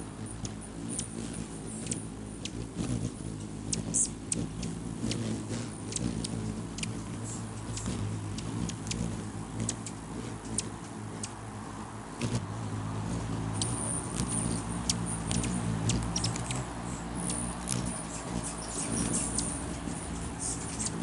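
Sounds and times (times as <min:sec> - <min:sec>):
hummingbird chip calls: 0:00.0 - 0:21.0
hummingbird wings humming: 0:00.0 - 0:21.0.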